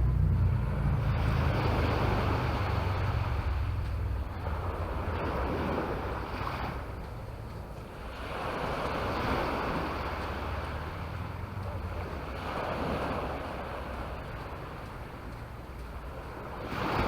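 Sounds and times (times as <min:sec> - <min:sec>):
sea waves washing onto beach: 0:00.0 - 0:17.0
wind rumbling on microphone: 0:00.0 - 0:17.0.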